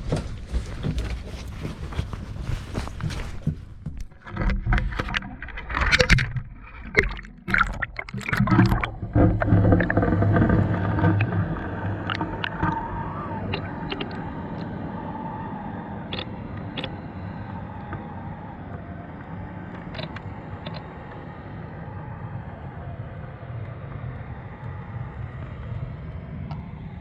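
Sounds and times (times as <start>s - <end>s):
boat engine rumble underwater: 0.0s - 27.0s.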